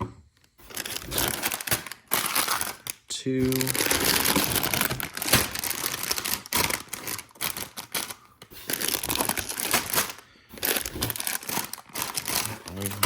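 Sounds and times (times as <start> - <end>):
plastic bags crinkling: 0.6 - 13.0.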